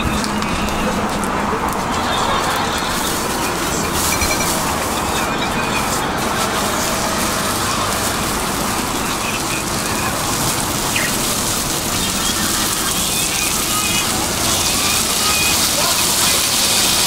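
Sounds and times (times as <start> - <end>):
sizzling on hot griddle: 0.0 - 17.0.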